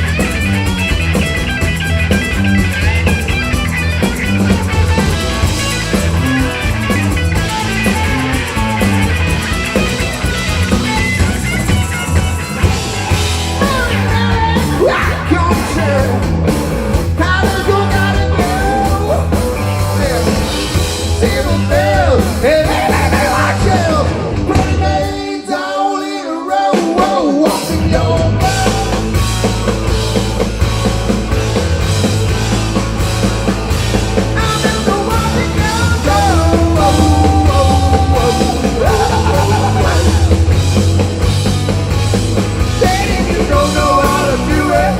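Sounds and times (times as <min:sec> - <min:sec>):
rock song with singing: 0:00.0 - 0:44.9.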